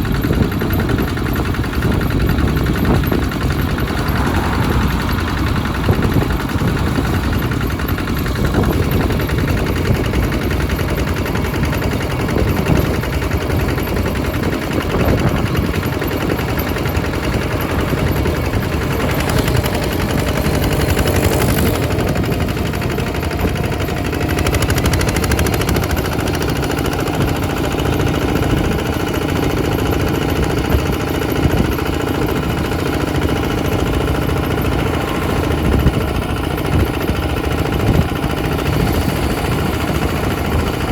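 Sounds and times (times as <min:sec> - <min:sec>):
diesel tractor engine chugging: 0:00.0 - 0:40.9.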